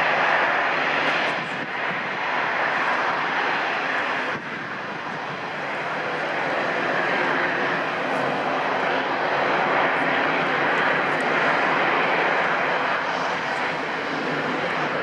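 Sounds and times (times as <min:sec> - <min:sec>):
propeller aircraft engines running: 0:00.0 - 0:15.0.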